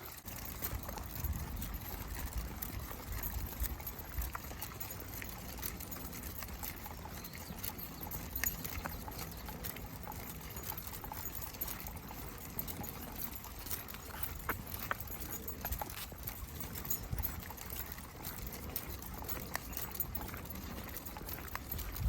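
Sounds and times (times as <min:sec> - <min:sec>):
footsteps crunching on trail: 0:00.0 - 0:22.0.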